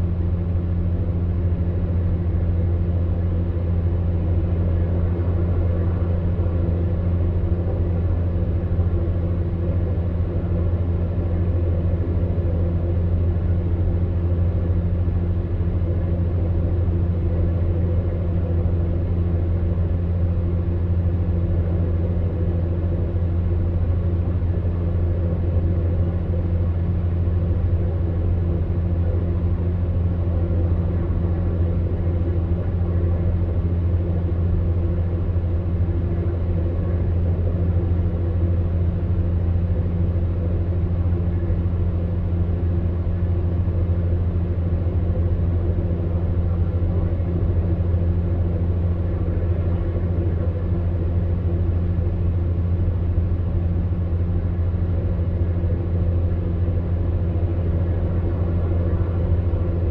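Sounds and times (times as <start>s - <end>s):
fan heater humming: 0.0s - 59.9s.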